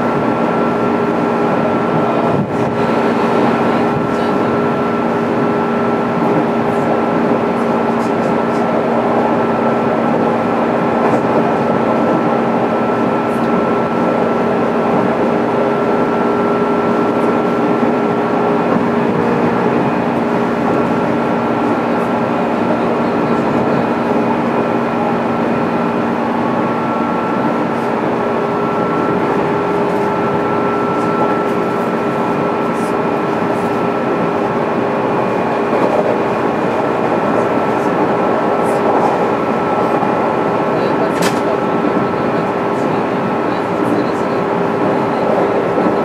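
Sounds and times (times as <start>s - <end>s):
train wheel and rail noise: 0.0s - 46.0s.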